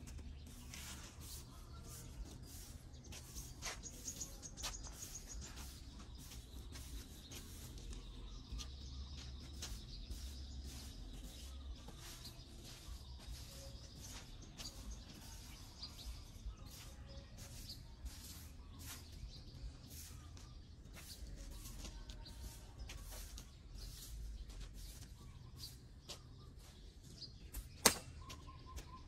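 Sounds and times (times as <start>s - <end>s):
broom sweeping leaves on paving: 0.0s - 27.3s
birds chirping: 0.0s - 29.0s.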